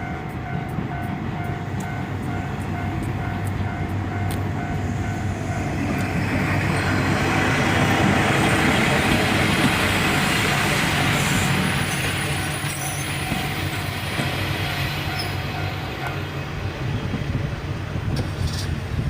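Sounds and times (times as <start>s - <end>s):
diesel railcar rumbling over crossing: 0.0s - 19.0s.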